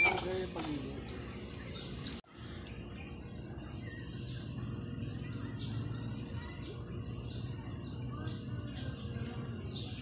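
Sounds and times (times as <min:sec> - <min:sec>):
outdoor background noise: 0:00.0 - 0:10.0
faint high chirps: 0:01.1 - 0:10.0.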